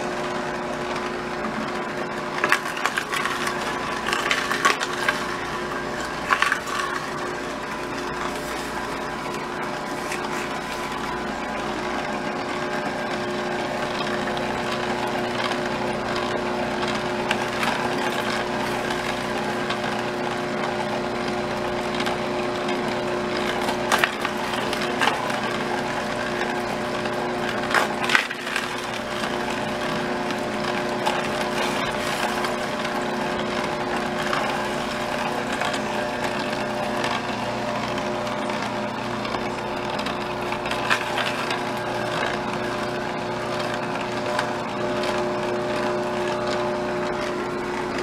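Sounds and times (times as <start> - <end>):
auger crushing fruit: 0.0 - 48.0
juicer motor hum: 0.0 - 48.0.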